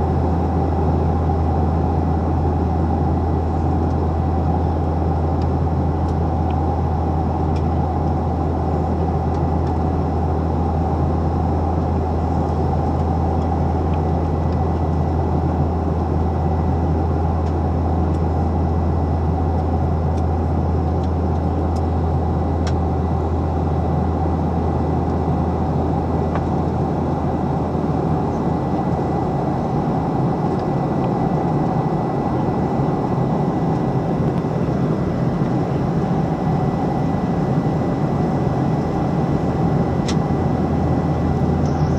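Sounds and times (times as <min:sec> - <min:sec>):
deep low hum: 0:00.0 - 0:41.9
jet engine roar in cabin: 0:00.0 - 0:41.9.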